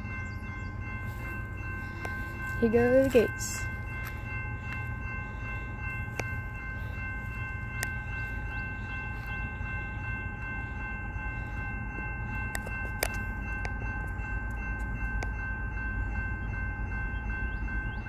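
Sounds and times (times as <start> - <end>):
crossing warning bell ringing: 0.0 - 18.0.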